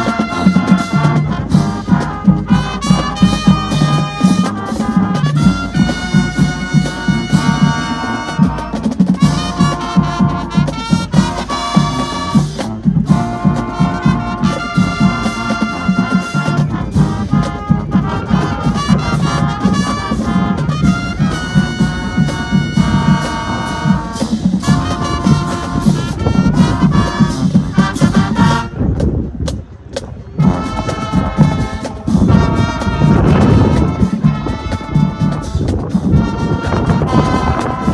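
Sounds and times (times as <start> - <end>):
brass chords: 0.0 - 29.4, 30.3 - 37.9
marching band playing: 0.0 - 37.9
steady drum beat: 0.0 - 37.9.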